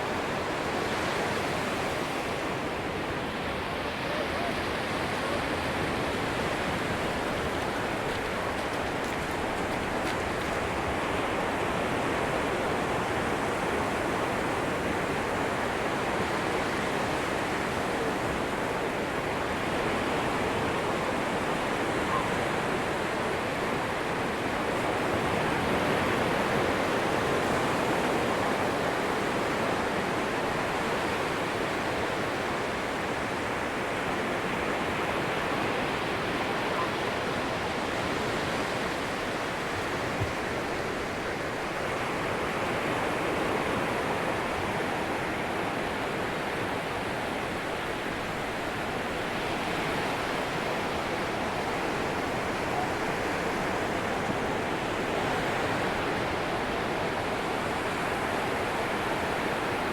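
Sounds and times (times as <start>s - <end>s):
ocean surf washing onto beach: 0.0s - 59.9s.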